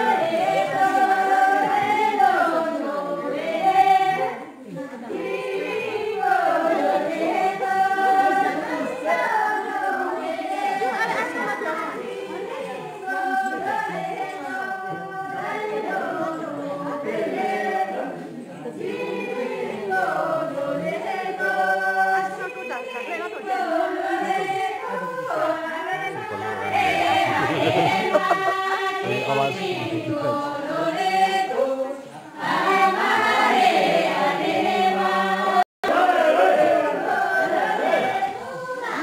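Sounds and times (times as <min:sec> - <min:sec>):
group singing folk song: 0:00.0 - 0:39.0.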